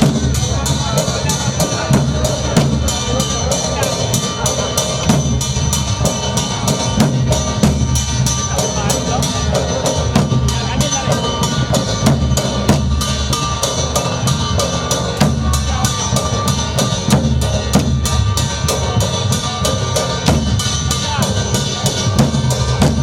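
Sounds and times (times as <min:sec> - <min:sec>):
drum-led percussion music: 0:00.0 - 0:23.0.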